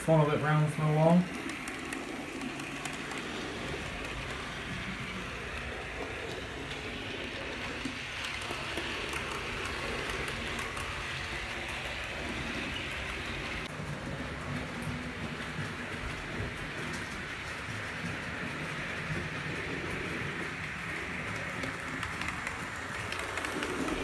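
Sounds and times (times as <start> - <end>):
model train running on track: 0.0 - 24.0
rain falling: 0.0 - 24.0.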